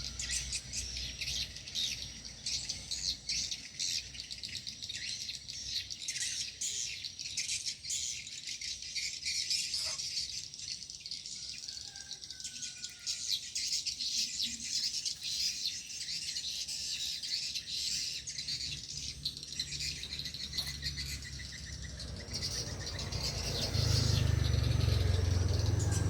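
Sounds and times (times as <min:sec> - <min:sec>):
rapid bird trill: 0:00.0 - 0:26.0
small birds chirping: 0:00.0 - 0:26.0.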